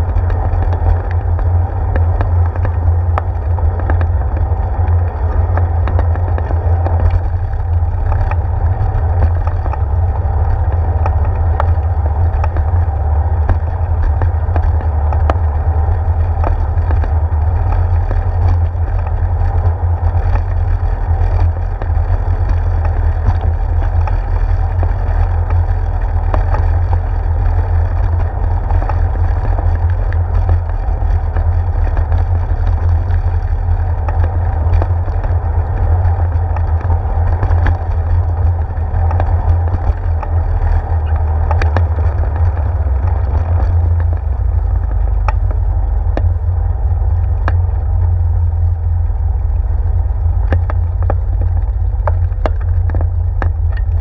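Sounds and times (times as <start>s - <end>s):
bicycle rolling over wooden boards: 0.0s - 54.0s
wind rumble: 0.0s - 54.0s.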